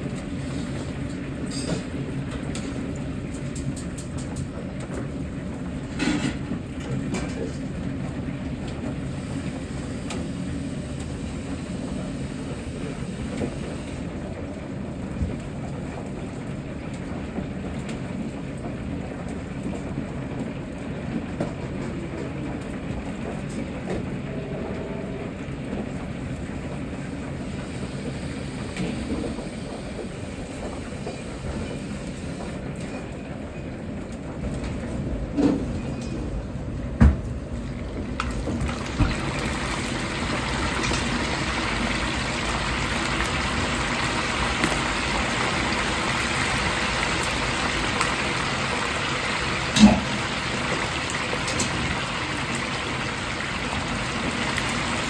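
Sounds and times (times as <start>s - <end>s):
low rumble of kitchen ventilation: 0.0s - 55.0s.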